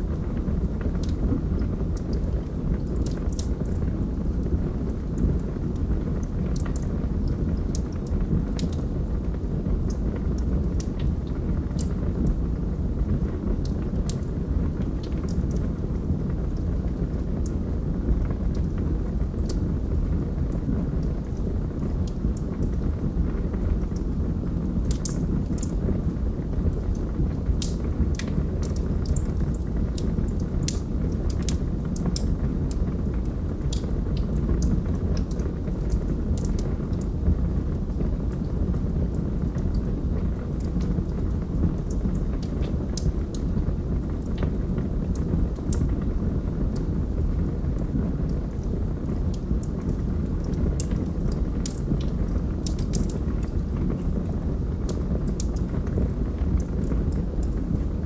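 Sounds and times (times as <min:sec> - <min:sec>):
burning wood crackling and popping: 0:00.0 - 0:58.0
fire rumbling: 0:00.0 - 0:58.0.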